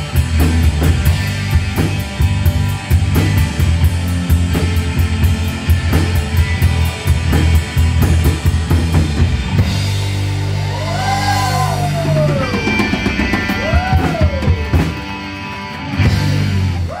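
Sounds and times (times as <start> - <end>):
bending lead guitar line: 0.0 - 17.0
live rock band playing: 0.0 - 17.0.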